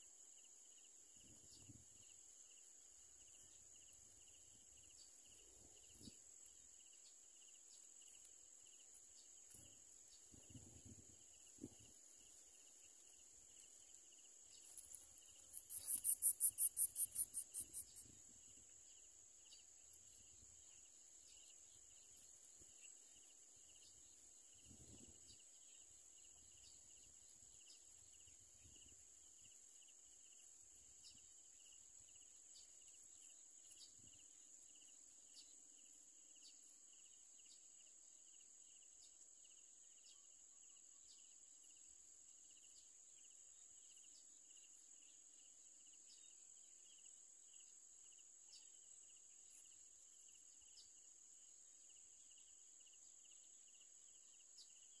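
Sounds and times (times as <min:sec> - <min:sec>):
insect pulsing trill: 0:00.0 - 0:55.0
insects buzzing: 0:00.0 - 0:55.0.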